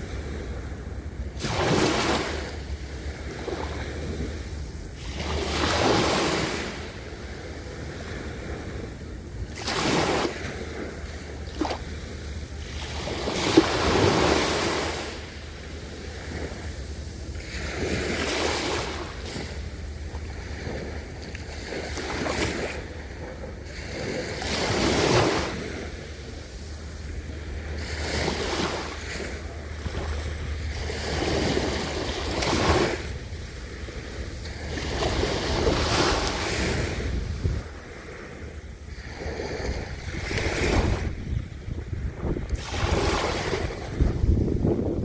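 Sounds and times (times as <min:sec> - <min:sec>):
ocean waves breaking on beach: 0:00.0 - 0:45.0
wind rumble on microphone: 0:00.0 - 0:45.0.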